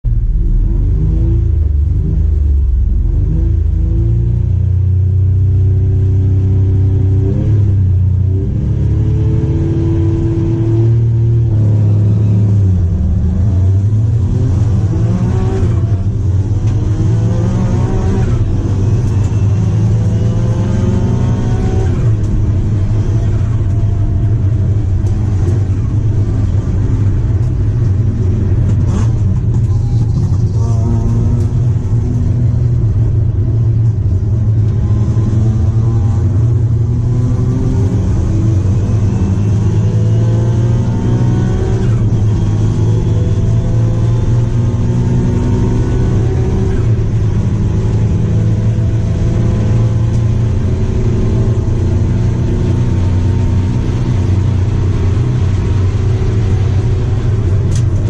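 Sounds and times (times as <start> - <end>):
car engine accelerating through gears: 0.1 - 58.0.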